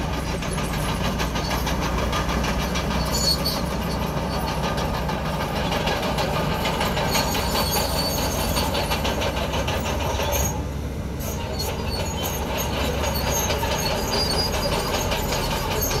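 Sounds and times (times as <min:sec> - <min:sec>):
bulldozer diesel engine running: 0:00.0 - 0:16.0
steel tracks clattering: 0:00.0 - 0:16.0.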